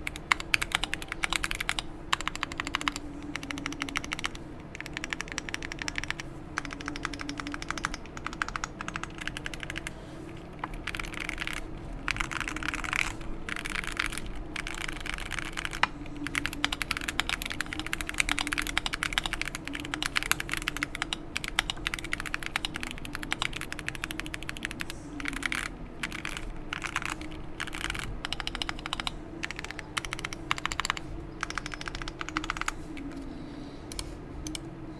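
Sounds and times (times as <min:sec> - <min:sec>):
mechanical keyboard typing: 0:00.0 - 0:09.9, 0:10.6 - 0:33.2.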